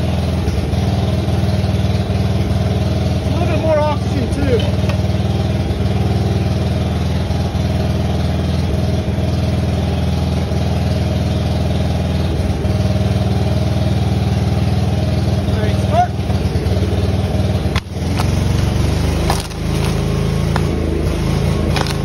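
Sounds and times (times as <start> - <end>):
welder engine idling: 0.0 - 22.0.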